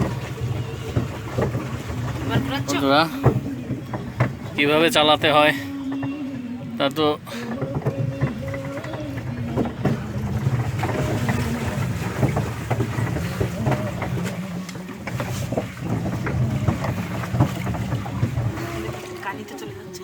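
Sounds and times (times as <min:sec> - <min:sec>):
boat knocks and clicks: 0:00.0 - 0:20.0
wind rumbling on microphone: 0:00.0 - 0:20.0.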